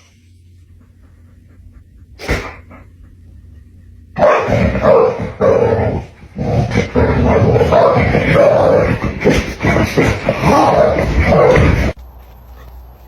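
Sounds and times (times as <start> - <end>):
dog barking and growling: 0.7 - 12.0.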